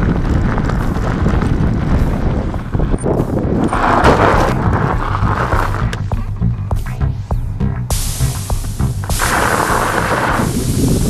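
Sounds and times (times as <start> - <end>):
bicycle tyres on gravel: 0.0 - 6.2, 7.9 - 11.0
wind buffeting microphone: 0.0 - 11.0.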